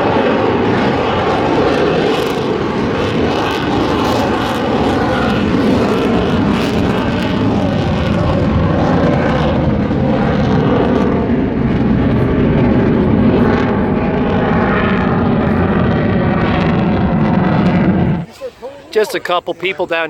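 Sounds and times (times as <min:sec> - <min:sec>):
jet aircraft flying overhead: 0:00.0 - 0:20.0.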